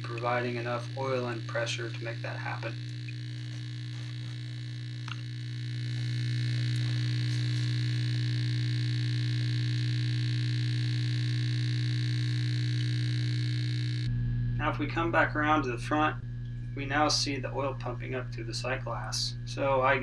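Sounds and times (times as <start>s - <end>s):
grinder motor humming with whine: 0.0s - 20.0s.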